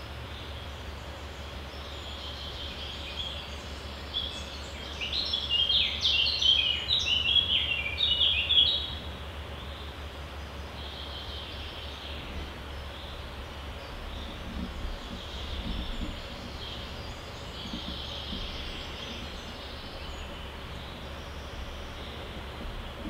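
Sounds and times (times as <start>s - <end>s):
low outdoor hum: 0.0s - 23.0s
songbird singing: 0.0s - 23.0s.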